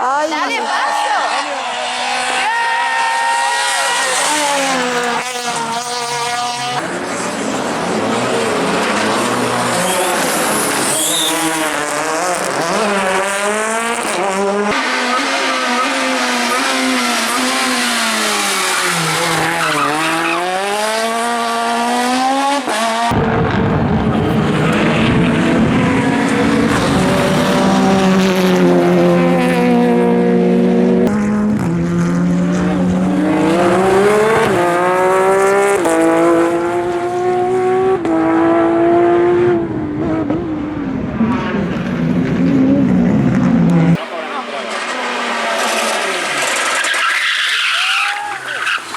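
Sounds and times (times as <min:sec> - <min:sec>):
rally car engine revving: 0:00.0 - 0:48.9
car accelerating through gears: 0:01.2 - 0:48.9.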